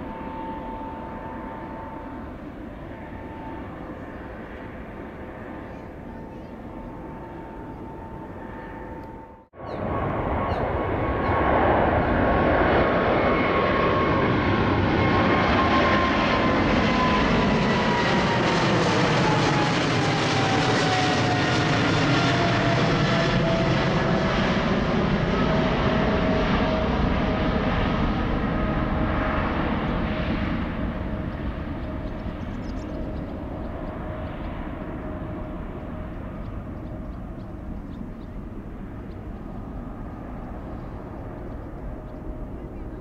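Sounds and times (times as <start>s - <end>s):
jet airliner passing overhead: 0.0s - 43.0s
whining jet fan tone: 0.0s - 43.0s.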